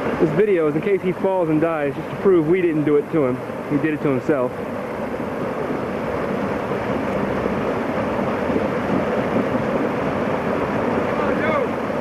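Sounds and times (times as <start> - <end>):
waterfall rushing over boulders: 0.0 - 12.0.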